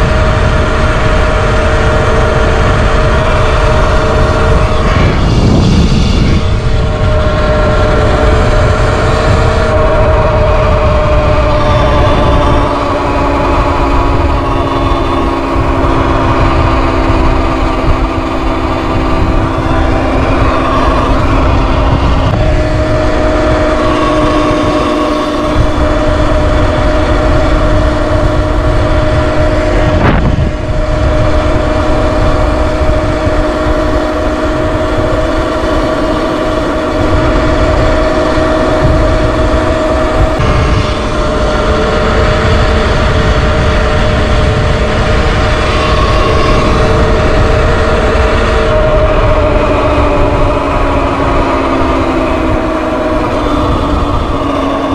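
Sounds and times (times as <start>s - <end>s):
electric motor whining: 0.0s - 54.9s
wind rush on microphone: 0.0s - 54.9s.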